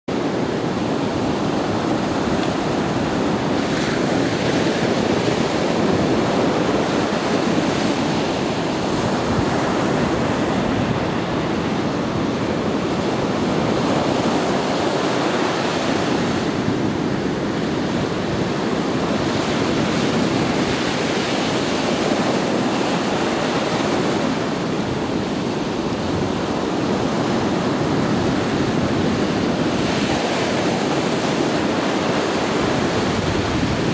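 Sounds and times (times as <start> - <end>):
small waves breaking on sand: 0.1 - 33.9.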